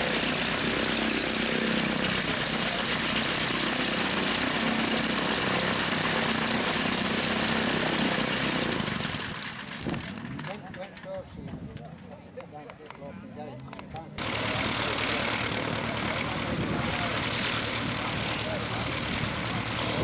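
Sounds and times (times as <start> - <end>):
propeller plane engine idling: 0.0 - 11.0, 14.2 - 20.0.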